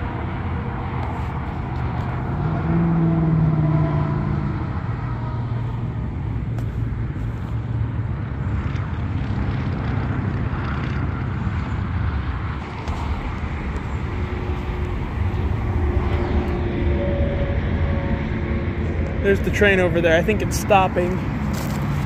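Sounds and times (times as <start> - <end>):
distant diesel locomotives rumbling: 0.0 - 22.0.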